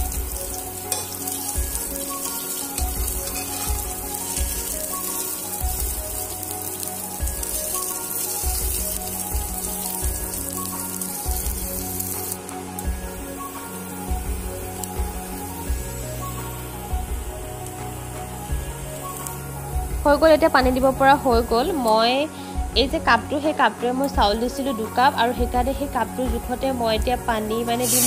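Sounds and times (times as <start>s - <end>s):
background music with steady beat: 0.0s - 28.0s
rice and spices sizzling in oil: 0.0s - 28.0s.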